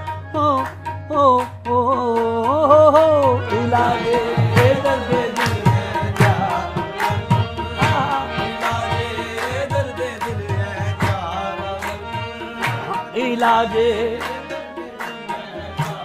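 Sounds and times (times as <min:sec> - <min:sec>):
held melodic accompaniment: 0:02.7 - 0:16.0.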